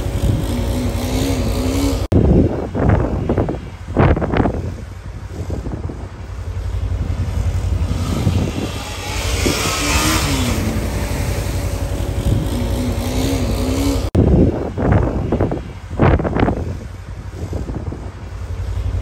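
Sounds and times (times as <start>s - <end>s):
dirt bike engine revving: 0.0s - 17.8s.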